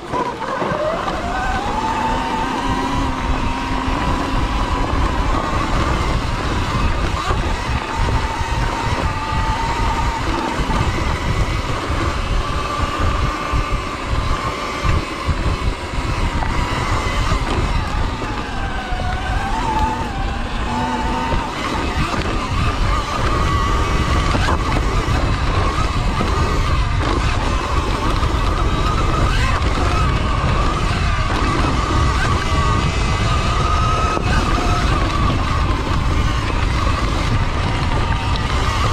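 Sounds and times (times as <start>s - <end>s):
electric motorbike motor whining: 0.0s - 38.9s
tyres on dirt: 0.0s - 38.9s
wind rumble: 0.0s - 38.9s.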